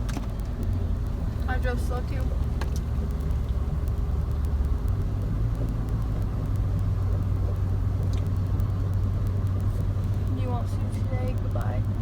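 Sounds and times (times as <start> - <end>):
car engine and tyres drone: 0.0 - 12.0.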